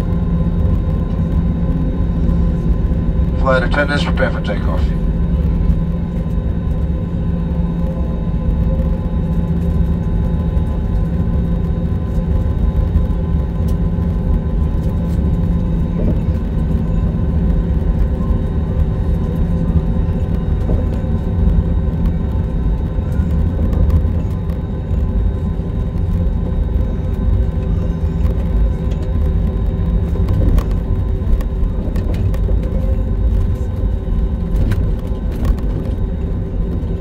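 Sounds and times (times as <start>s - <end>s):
faint engine whine: 0.0s - 37.0s
jet engines low rumble: 0.0s - 37.0s.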